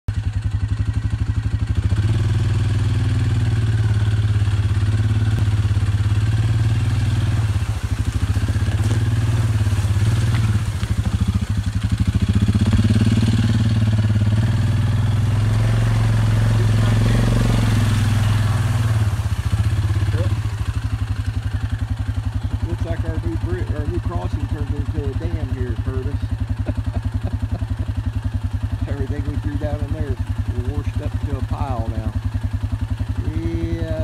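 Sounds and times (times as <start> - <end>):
quad bike engine running: 0.1 - 34.0.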